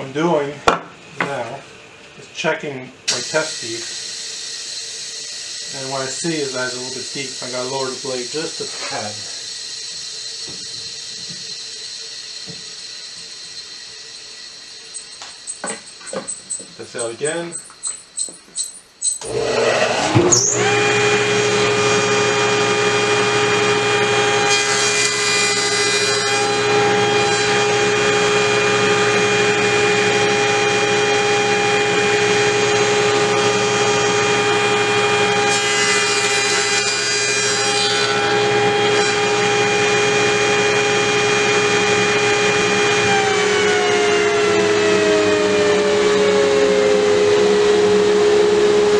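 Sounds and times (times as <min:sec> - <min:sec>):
machine hiss with high whine: 0:00.0 - 0:47.4
table saw running: 0:03.1 - 0:18.0, 0:19.0 - 0:48.9.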